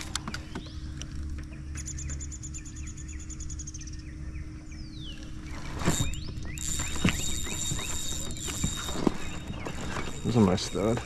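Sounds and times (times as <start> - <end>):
low steady hum: 0.0 - 11.0
songbird trill: 0.2 - 11.0
bird chirps: 0.5 - 11.0.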